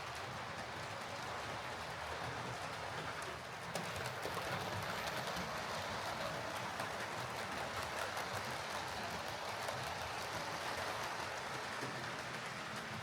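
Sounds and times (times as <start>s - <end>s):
faint ticking from rails: 0.0s - 13.0s
model train motor and wheel rumble: 0.0s - 13.0s.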